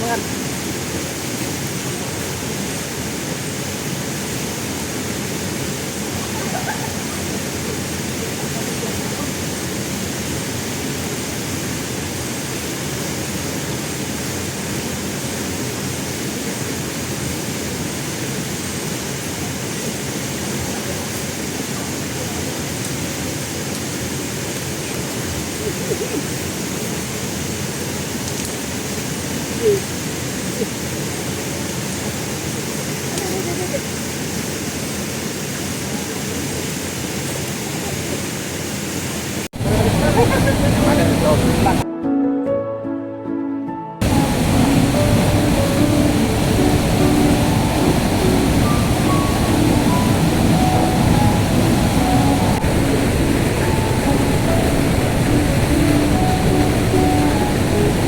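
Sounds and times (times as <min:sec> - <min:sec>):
waterfall roaring: 0:00.0 - 0:41.8, 0:44.0 - 0:58.0.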